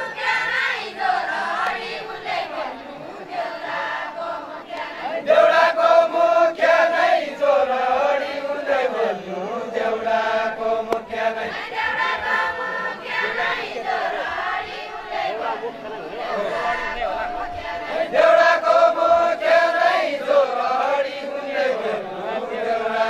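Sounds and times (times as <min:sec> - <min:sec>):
men chanting a folk song: 0:00.0 - 0:23.0.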